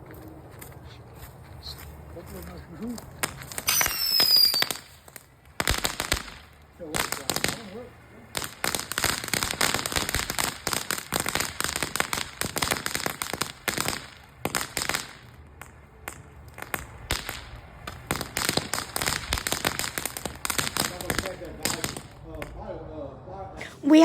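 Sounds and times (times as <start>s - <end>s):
firecrackers popping: 1.2s - 22.6s.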